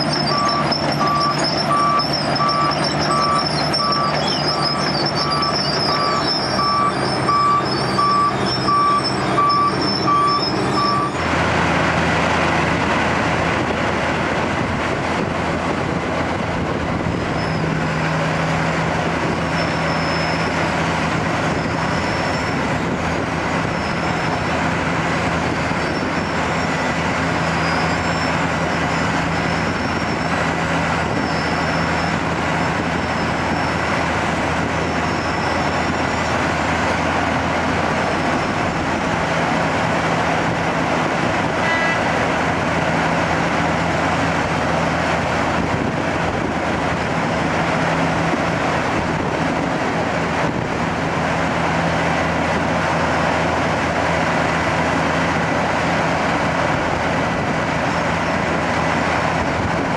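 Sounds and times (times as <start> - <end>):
drum grinding asphalt: 0.0 - 59.9.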